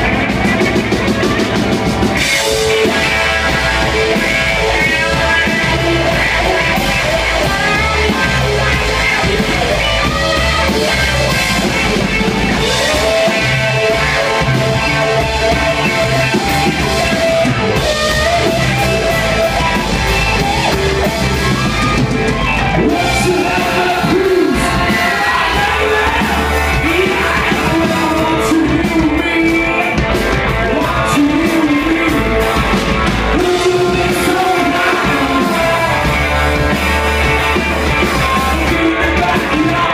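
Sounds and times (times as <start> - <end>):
rock band playing: 0.0 - 39.9
person singing: 2.2 - 39.9.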